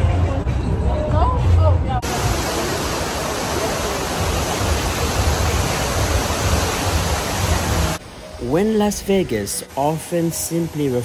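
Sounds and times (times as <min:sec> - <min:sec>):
waterfall rushing into a pool: 0:02.0 - 0:11.0.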